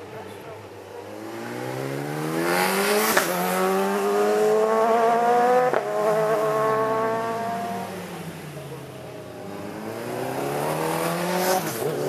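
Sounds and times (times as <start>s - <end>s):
motorcycle engine accelerating: 1.0s - 8.8s, 9.4s - 12.0s.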